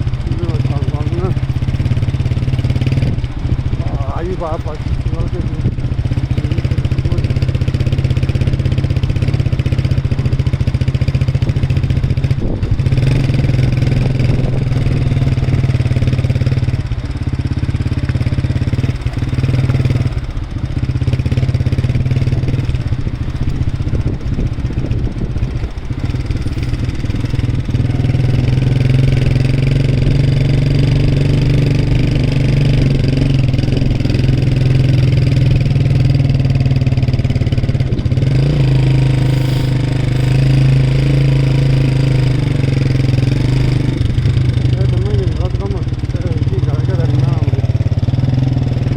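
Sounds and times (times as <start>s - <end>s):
vehicle engine droning: 0.0s - 48.9s.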